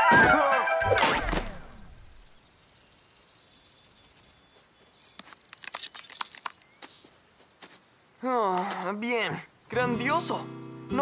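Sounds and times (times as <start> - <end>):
crickets chirring: 1.5 - 11.0.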